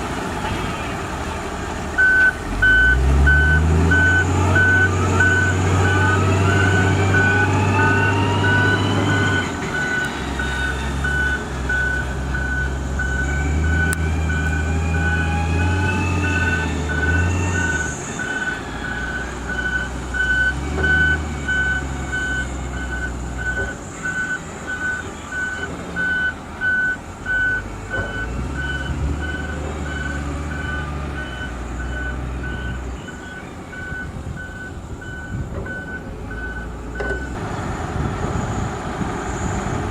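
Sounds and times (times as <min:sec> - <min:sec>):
diesel engine running: 0:00.0 - 0:39.9
rising engine whine: 0:00.0 - 0:39.9
reversing alarm beeps: 0:02.0 - 0:37.3.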